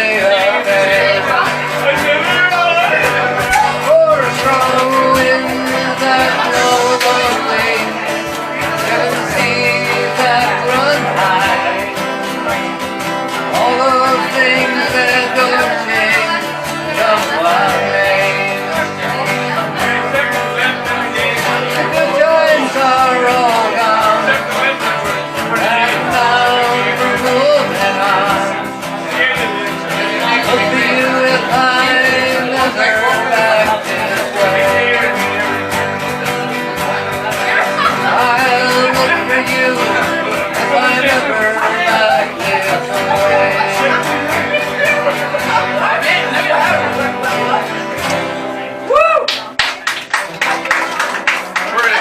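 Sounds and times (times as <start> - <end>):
acoustic guitars strumming: 0.0 - 52.0.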